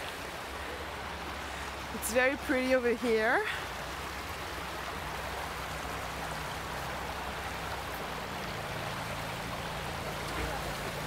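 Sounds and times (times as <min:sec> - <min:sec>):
shallow water rushing: 0:00.0 - 0:11.0.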